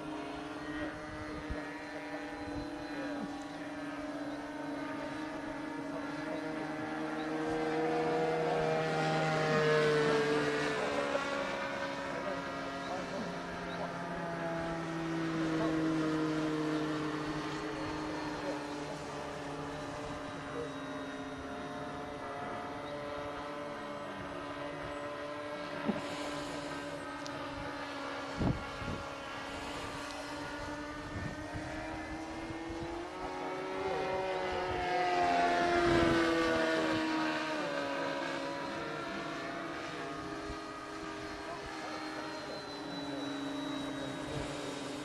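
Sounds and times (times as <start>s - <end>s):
model airplane engine buzz: 0.0s - 45.0s.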